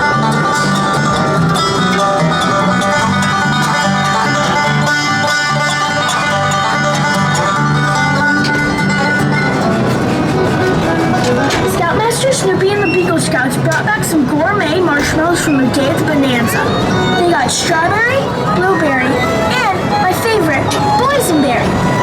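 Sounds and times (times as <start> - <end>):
upbeat bluegrass tune: 0.0 - 22.0.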